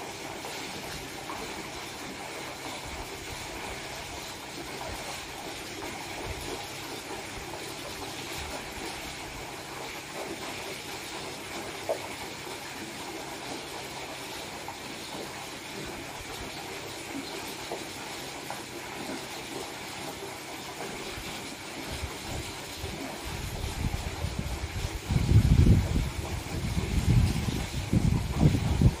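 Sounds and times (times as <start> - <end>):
water running into pool: 0.0 - 29.0.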